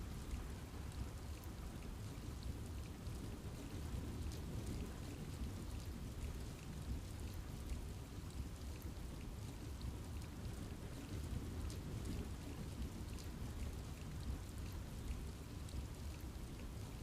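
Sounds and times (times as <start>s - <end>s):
rain falling in forest: 0.0s - 17.0s.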